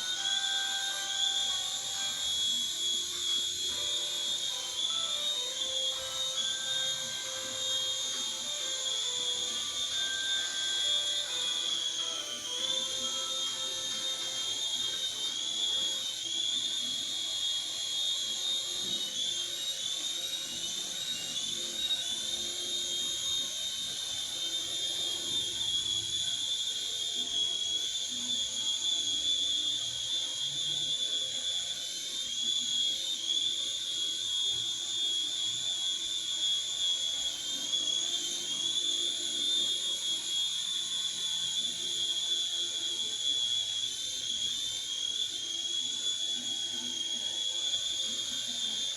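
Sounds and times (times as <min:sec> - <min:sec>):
small electric motor whining: 0:00.0 - 0:48.9.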